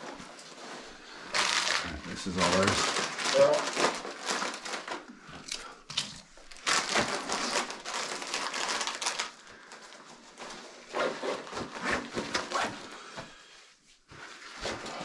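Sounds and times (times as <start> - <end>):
rustling and handling noises: 0.0 - 15.0.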